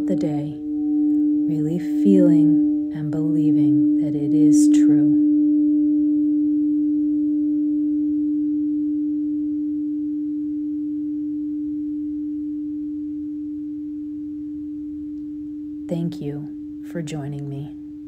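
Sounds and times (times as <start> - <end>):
crystal singing bowl ringing: 0.0 - 15.9.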